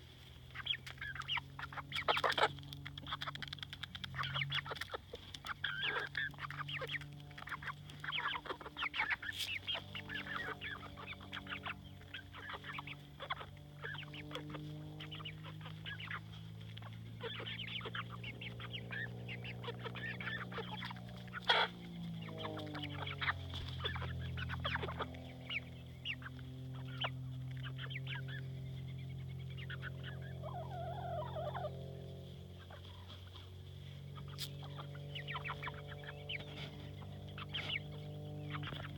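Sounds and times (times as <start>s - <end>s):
chickens clucking: 0.0s - 38.9s
steady low hum: 0.0s - 38.9s.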